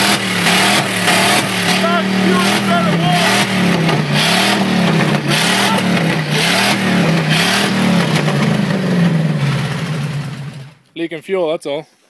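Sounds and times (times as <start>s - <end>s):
engine bouncing off rev limiter: 0.0s - 10.8s.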